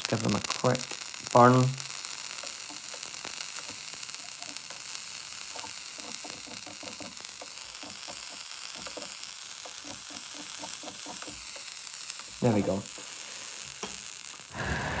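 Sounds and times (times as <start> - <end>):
coils sizzling and crackling: 0.0 - 15.0.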